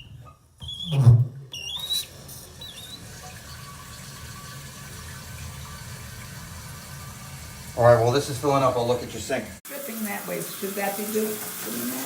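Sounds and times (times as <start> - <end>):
toilet flushing: 0.9 - 12.0
toilet tank refilling hiss: 1.5 - 12.0.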